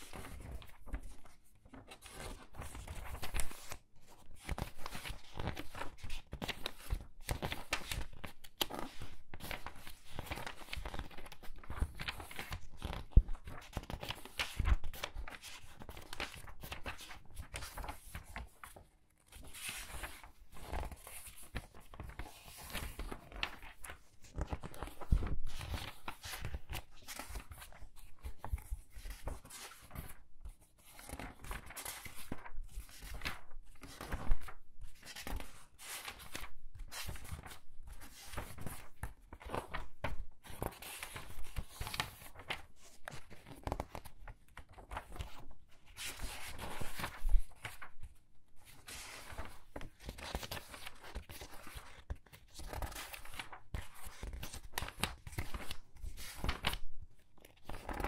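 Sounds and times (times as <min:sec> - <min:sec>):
book pages turning: 0:00.0 - 0:56.8, 0:57.4 - 0:58.0.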